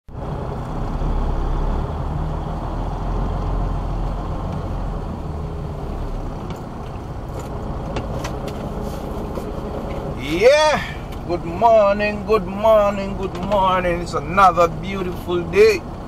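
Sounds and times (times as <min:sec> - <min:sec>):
diesel engine rumbling: 0:00.1 - 0:16.0.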